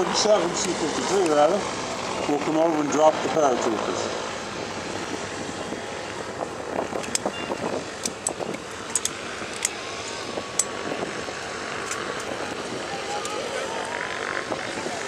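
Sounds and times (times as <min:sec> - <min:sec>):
distant propeller aircraft engines: 0:00.0 - 0:15.0.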